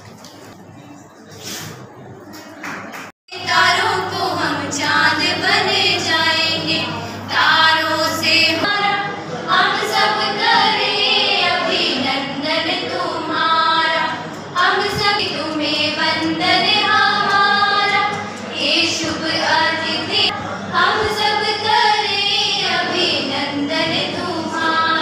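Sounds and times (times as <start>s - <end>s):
women singing in chorus: 3.3s - 25.0s.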